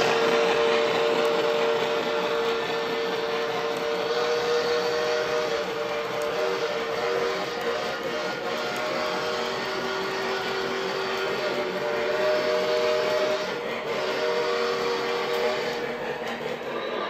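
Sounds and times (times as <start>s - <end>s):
model train whirring rumble: 0.0s - 17.0s
train horn chord: 0.0s - 17.0s.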